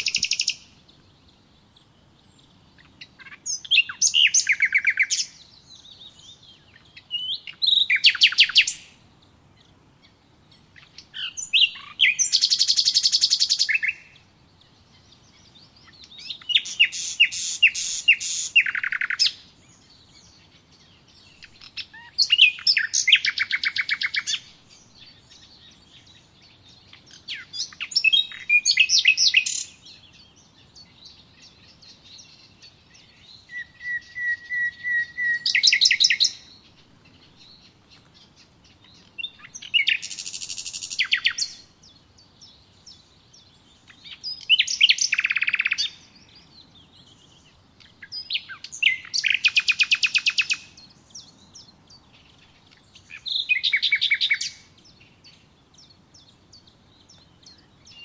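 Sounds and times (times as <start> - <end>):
faint bird chirping: 0.0 - 58.0
songbird trilling: 0.0 - 58.0.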